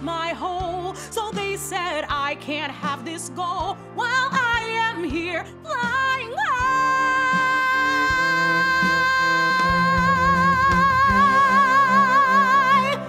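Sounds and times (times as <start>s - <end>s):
instrumental backing track: 0.0s - 13.0s.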